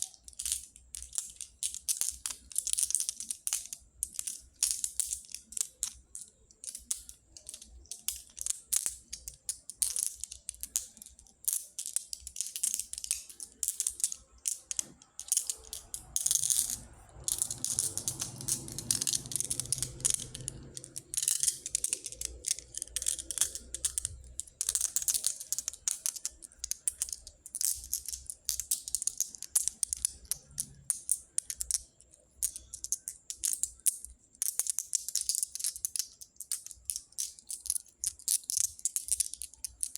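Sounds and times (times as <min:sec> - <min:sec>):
pebbles clicking together: 0:00.0 - 0:39.9.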